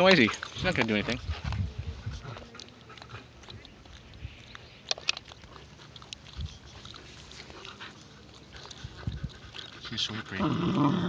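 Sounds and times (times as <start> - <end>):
puppy chewing on a frisbee: 0.0 - 10.5.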